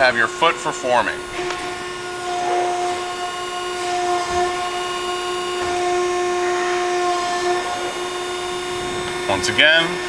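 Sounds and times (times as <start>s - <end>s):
hydraulic pump whining: 0.0s - 10.0s
faint knocks: 0.8s - 10.0s.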